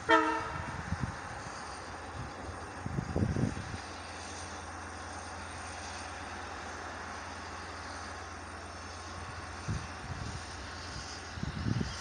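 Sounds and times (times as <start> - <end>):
distant locomotive engine drone: 0.0 - 12.0
rolling rail noise: 0.0 - 12.0.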